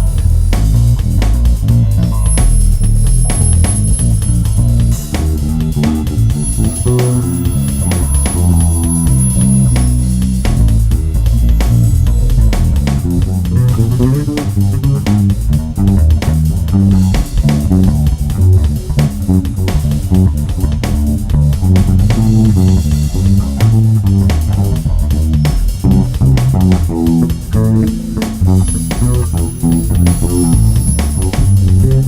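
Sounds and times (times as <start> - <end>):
bass guitar solo: 0.0 - 32.0
drum beat: 0.0 - 32.0.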